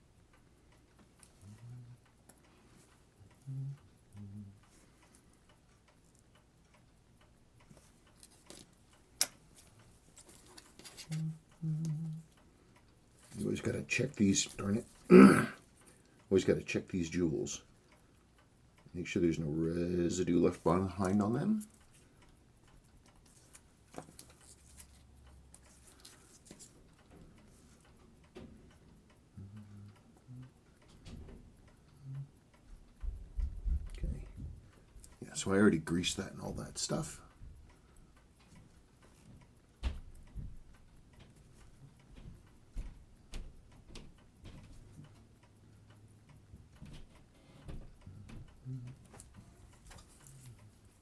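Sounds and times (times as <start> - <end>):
small tools clicking on watch: 0.3 - 16.3, 19.6 - 51.0.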